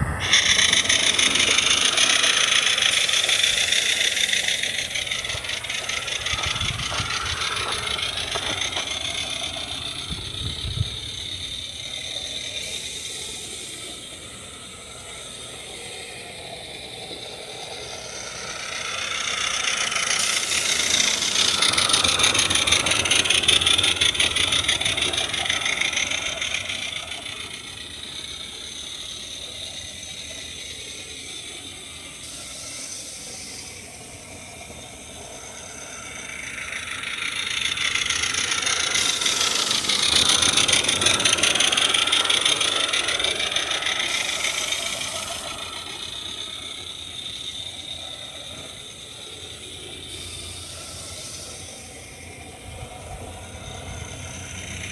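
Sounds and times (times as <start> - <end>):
steam locomotive chuffing and hissing: 0.0 - 54.9.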